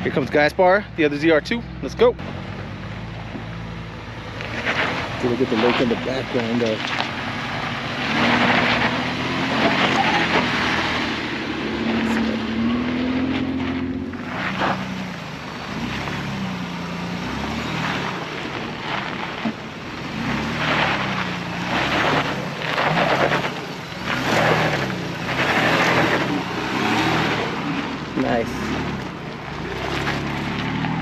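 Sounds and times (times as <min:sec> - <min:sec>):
pickup engine revving: 0:00.0 - 0:31.0.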